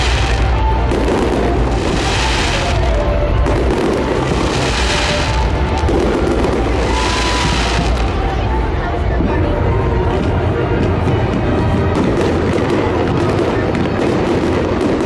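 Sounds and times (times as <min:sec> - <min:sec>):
fireworks booming: 0:00.0 - 0:15.0
fireworks crackling: 0:00.0 - 0:15.0.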